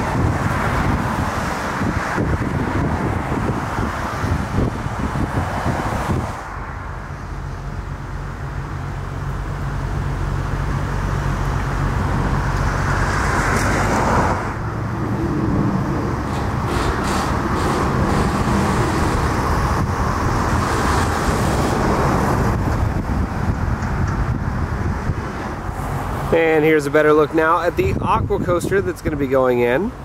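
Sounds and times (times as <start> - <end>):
vehicle passing: 0.0 - 27.9
low engine hum: 0.0 - 30.0
traffic noise: 0.0 - 30.0.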